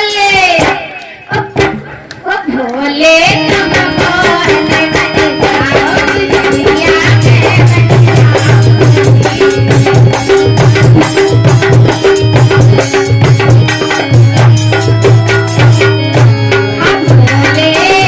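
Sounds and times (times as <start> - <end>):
fast hand drum rhythm: 0.0 - 18.0
held melody: 3.3 - 18.0.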